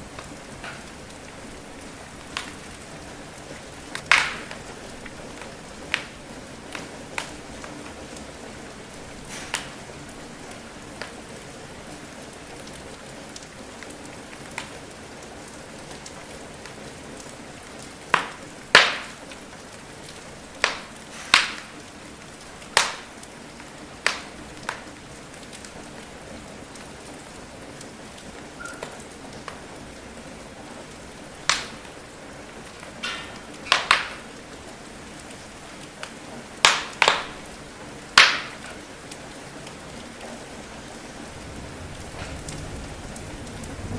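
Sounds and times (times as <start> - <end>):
wood fire crackling and popping: 0.0 - 11.3, 11.9 - 27.2, 27.8 - 43.9
rain hiss: 0.0 - 43.9.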